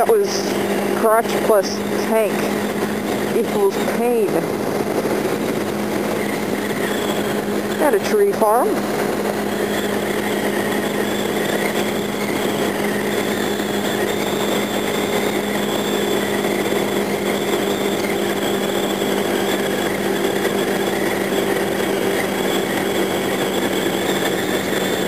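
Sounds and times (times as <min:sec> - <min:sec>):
motorcycle engine cruising: 0:00.0 - 0:25.0.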